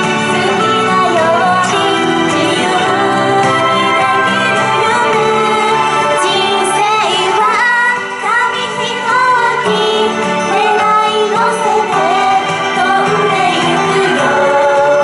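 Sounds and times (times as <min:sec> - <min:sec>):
backing music: 0:00.0 - 0:15.0
women singing pop song: 0:00.0 - 0:15.0.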